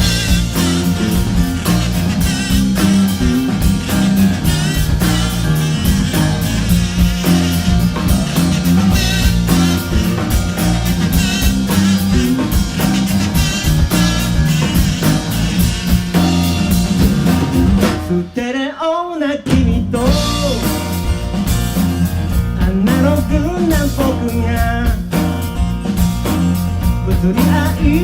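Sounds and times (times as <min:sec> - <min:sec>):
drum kit beat: 0:00.0 - 0:18.4, 0:19.5 - 0:28.0
live rock band playing: 0:00.0 - 0:18.4, 0:19.5 - 0:28.0.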